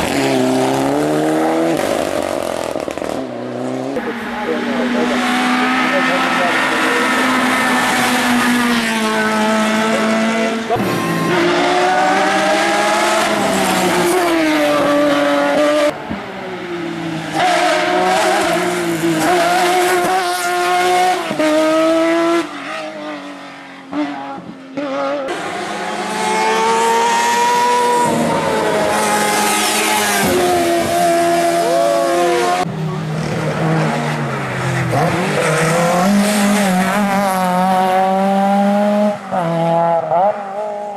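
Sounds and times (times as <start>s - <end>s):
race car engines at full throttle: 0.0s - 40.9s.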